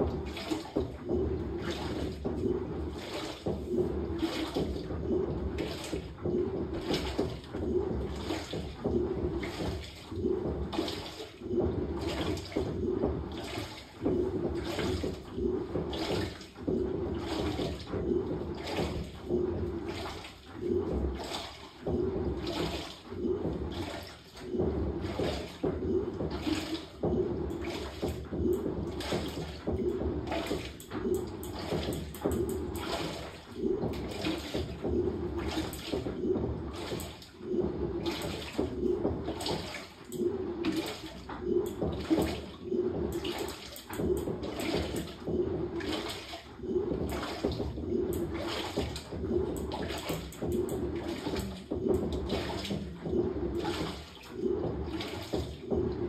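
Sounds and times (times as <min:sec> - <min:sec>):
washing machine sloshing water: 0:00.0 - 0:56.0.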